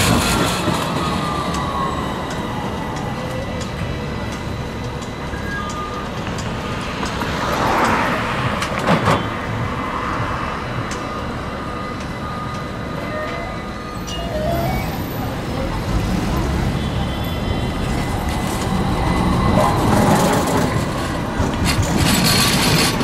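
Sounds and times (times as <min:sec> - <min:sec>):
rail noise: 0:00.0 - 0:23.0
traffic hum: 0:00.0 - 0:23.0.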